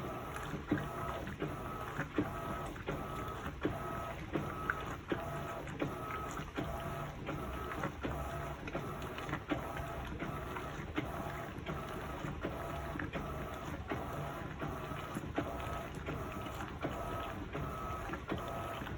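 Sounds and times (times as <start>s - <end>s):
washing machine motor whining: 0.0s - 18.9s.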